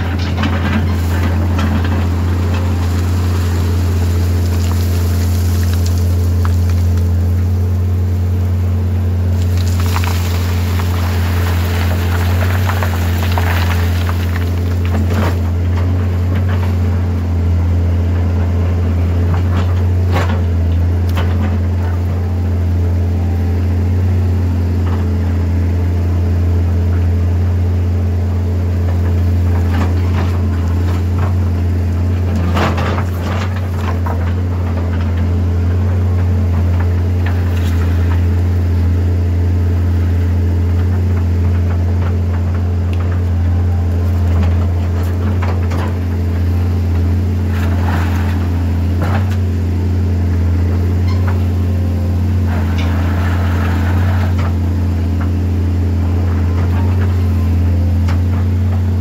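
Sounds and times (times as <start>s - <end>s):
diesel excavator engine under load: 0.0s - 59.0s.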